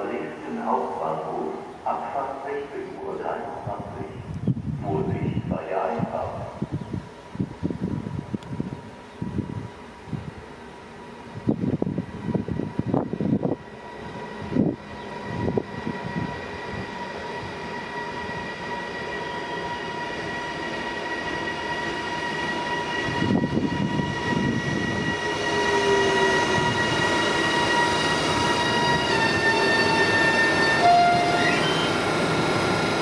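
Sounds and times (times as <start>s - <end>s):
train on track: 0.0s - 33.0s.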